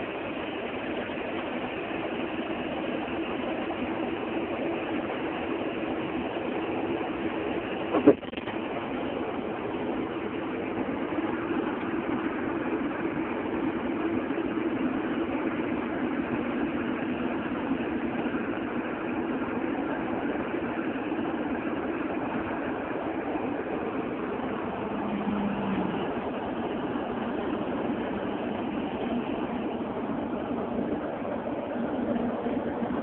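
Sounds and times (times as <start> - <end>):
car engine drone: 0.0 - 33.0
road noise rushing: 0.0 - 33.0.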